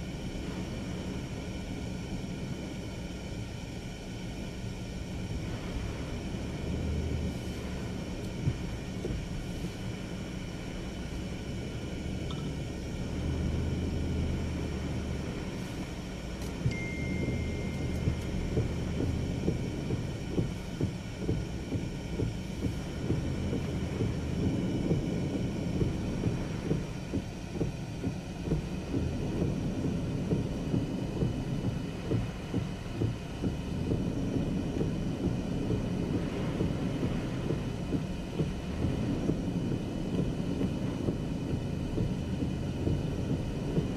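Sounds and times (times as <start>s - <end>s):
heavy rain: 0.1s - 43.9s.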